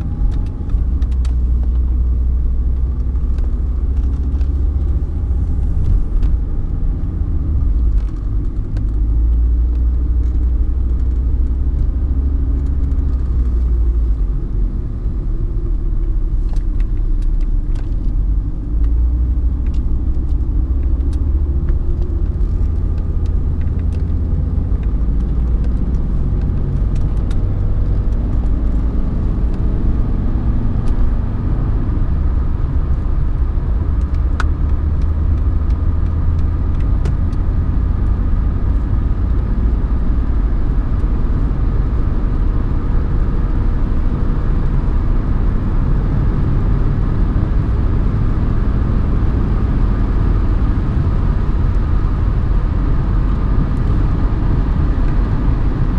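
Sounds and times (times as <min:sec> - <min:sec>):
diesel engine drone: 0:00.0 - 0:55.9
road noise: 0:00.0 - 0:55.9.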